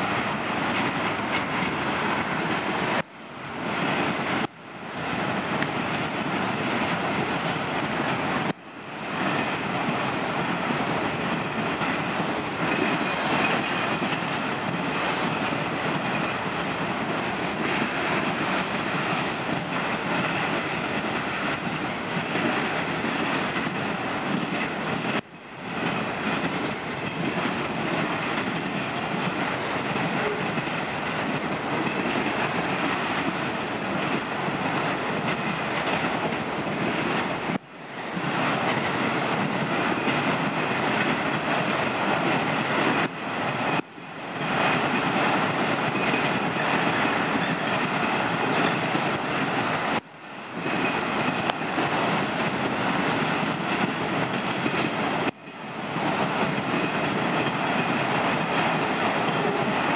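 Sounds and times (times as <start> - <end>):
steel wheels on rail: 0.0 - 59.9.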